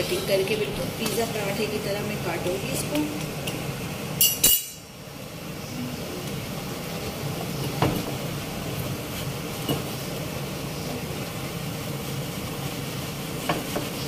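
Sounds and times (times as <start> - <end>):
kitchen hum: 0.0 - 14.0.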